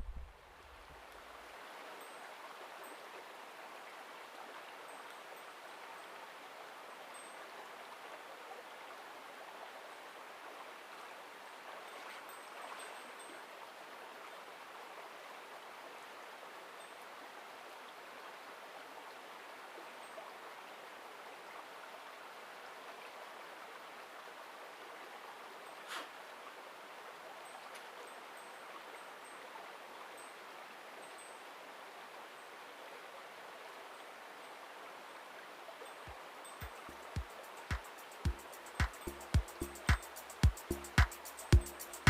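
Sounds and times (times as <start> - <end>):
mountain stream flowing: 0.0 - 42.0.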